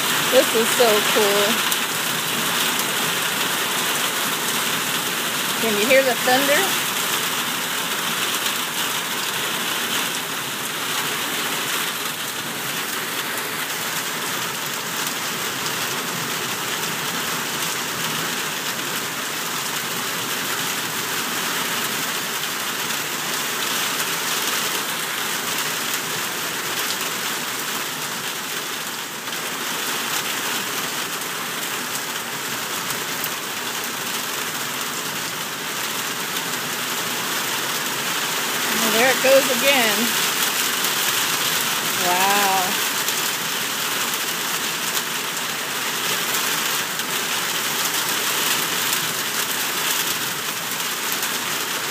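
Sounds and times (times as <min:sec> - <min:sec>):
heavy rain pouring on ground: 0:00.0 - 0:51.9.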